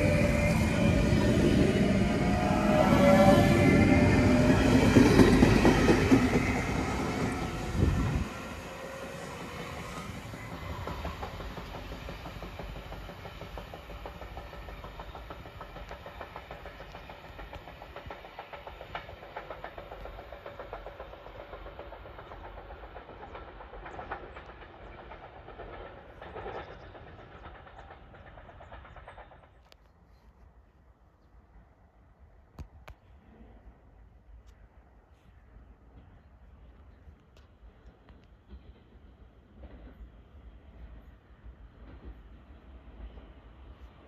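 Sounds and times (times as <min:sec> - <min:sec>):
train wheels clicking over rails: 0:00.0 - 0:30.3, 0:35.9 - 0:44.0
train rumble: 0:00.0 - 0:44.0.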